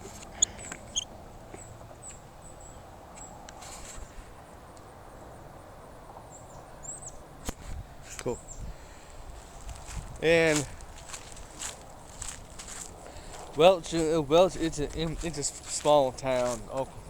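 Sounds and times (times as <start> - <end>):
small birds chirping: 0.0 - 5.5, 6.1 - 17.0.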